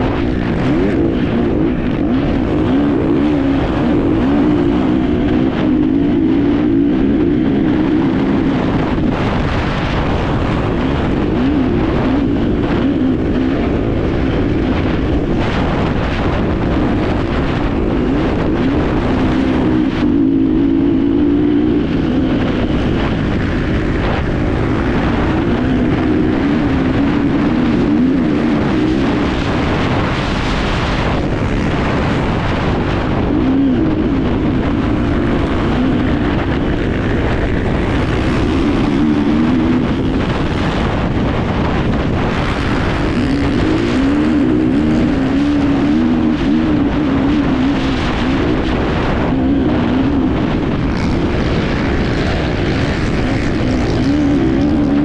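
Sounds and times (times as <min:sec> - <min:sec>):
motorcycle engine revving: 0:00.0 - 0:55.0
wind and terrain noise: 0:00.0 - 0:55.0.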